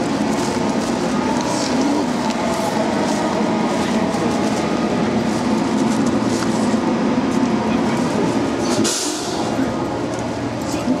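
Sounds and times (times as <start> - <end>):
train rumbling past slowly: 0.0 - 11.0.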